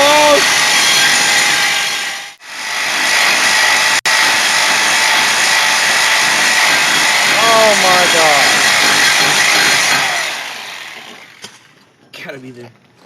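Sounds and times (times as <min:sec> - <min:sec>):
reciprocating saw cutting steel: 0:00.0 - 0:11.4.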